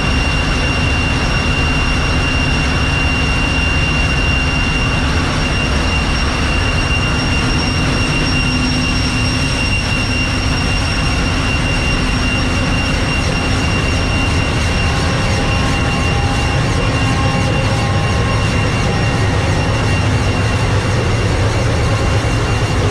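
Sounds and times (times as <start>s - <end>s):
deep machinery rumble: 0.0s - 22.9s
high-pitched machinery whine: 0.0s - 22.9s.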